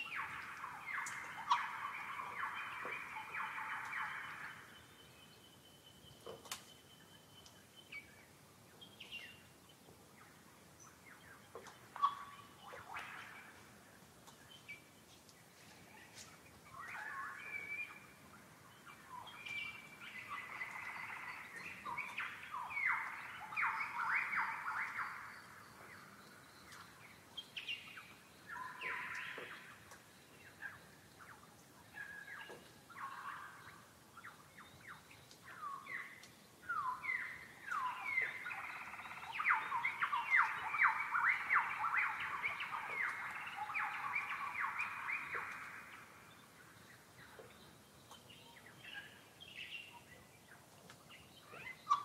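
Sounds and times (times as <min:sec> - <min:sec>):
birds calling: 0:00.0 - 0:52.0.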